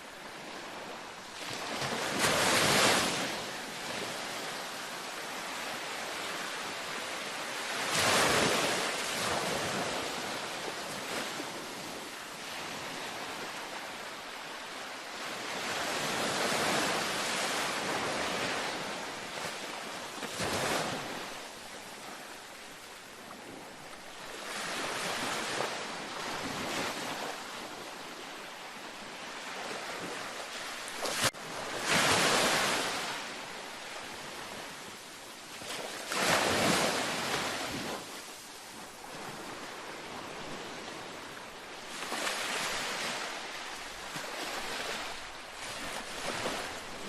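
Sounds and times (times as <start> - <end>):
ocean waves breaking: 0.2 - 47.0.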